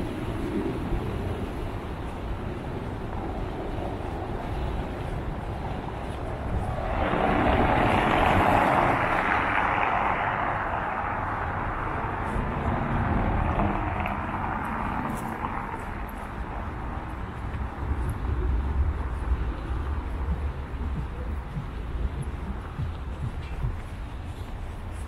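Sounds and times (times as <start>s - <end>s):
low traffic rumble: 0.0s - 25.0s
vehicle passing: 4.7s - 25.0s.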